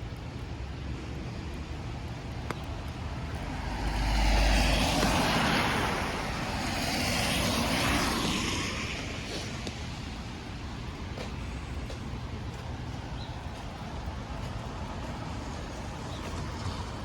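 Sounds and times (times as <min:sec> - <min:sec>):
vehicle tyres hissing on wet street: 0:00.1 - 0:17.0.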